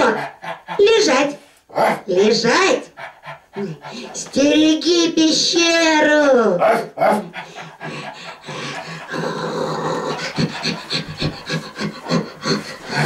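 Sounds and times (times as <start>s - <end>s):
person imitating dog panting: 0.0s - 13.0s.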